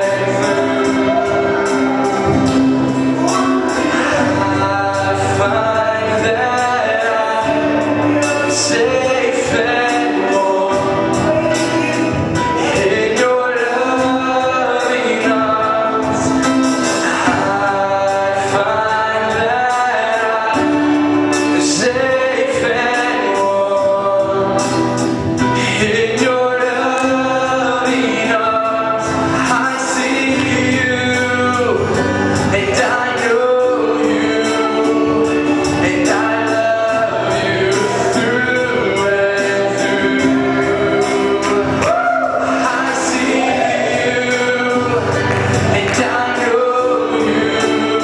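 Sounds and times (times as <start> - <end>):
backing singers: 0.0 - 48.0
instrumental accompaniment: 0.0 - 48.0
man singing into a microphone: 0.0 - 48.0
steady beat: 0.0 - 48.0.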